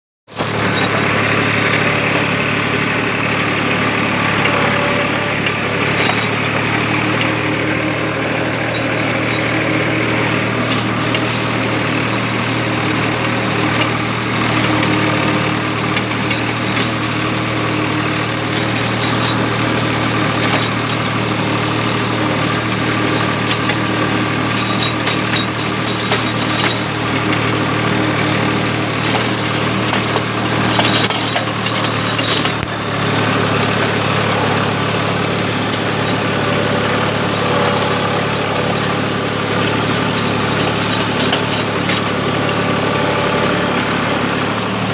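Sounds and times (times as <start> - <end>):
tractor diesel engine running: 0.3 - 44.9.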